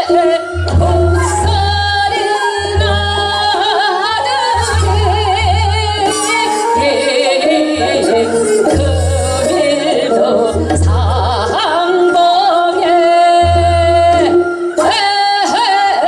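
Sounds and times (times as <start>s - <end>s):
woman singing folk song: 0.0s - 16.0s
deep bass accompaniment: 0.2s - 12.4s, 13.2s - 14.6s.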